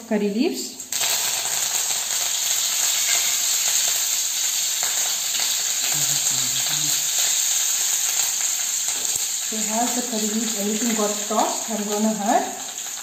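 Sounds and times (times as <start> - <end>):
leaves sizzling in hot oil: 0.8 - 13.0.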